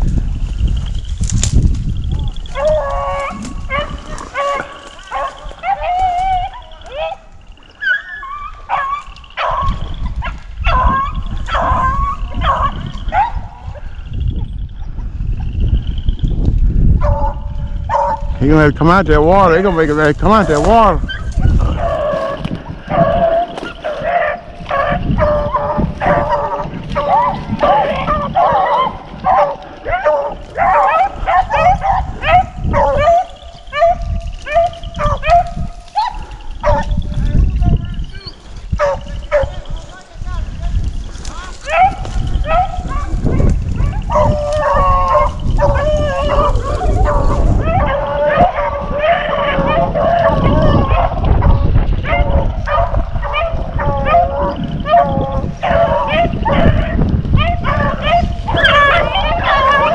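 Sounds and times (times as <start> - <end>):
hounds baying: 2.2 - 14.6, 16.9 - 40.1, 41.2 - 59.9.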